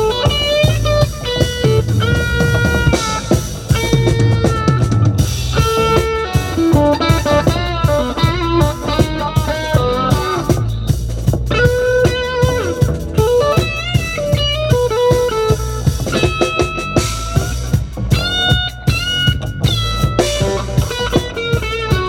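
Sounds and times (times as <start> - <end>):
bass guitar: 0.0 - 22.0
drums: 0.0 - 22.0
lead guitar with bent notes: 0.0 - 22.0.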